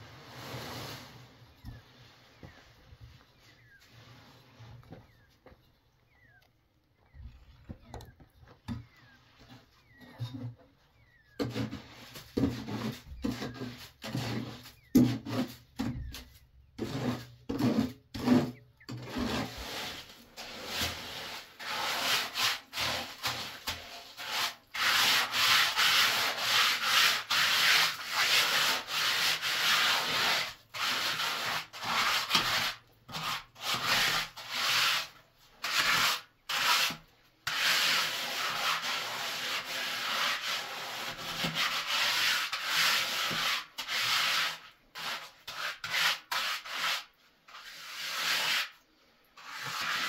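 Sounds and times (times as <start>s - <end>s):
trowel scraping wet cement: 8.7s - 48.8s, 49.4s - 50.0s.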